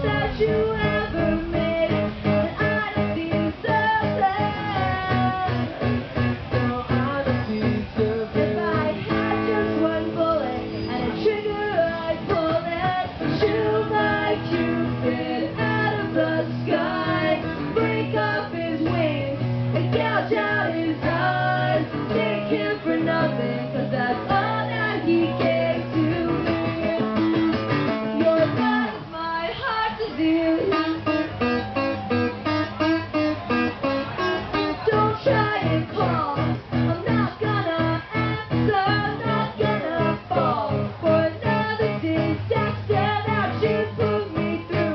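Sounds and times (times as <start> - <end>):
acoustic guitar strumming: 0.0 - 29.1, 30.1 - 44.9.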